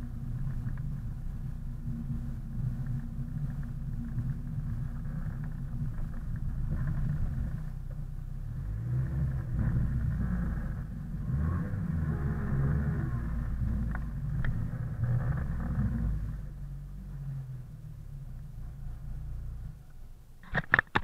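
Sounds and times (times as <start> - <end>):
car engine rumbling: 0.0 - 20.9.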